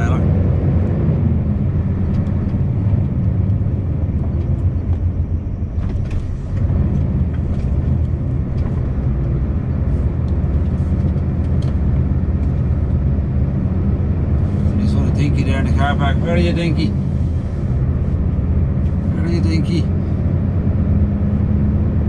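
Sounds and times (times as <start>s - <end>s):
road noise: 0.0s - 22.0s
truck engine rumble: 0.0s - 22.0s.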